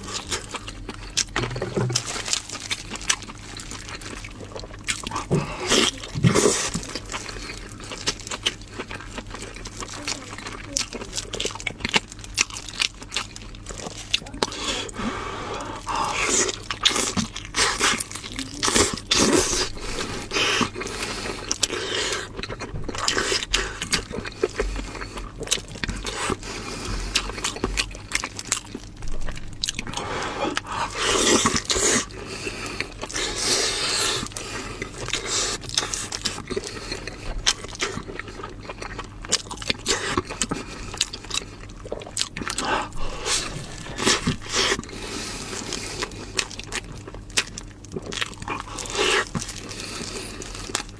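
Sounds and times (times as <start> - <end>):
person chewing crunchy food: 0.0 - 50.9.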